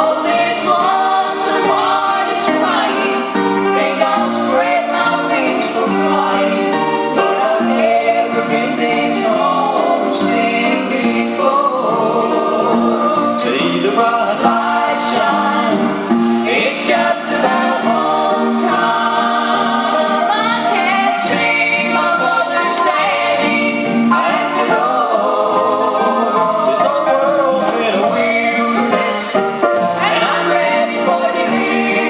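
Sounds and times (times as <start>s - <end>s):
choir singing gospel in harmony: 0.0s - 32.0s.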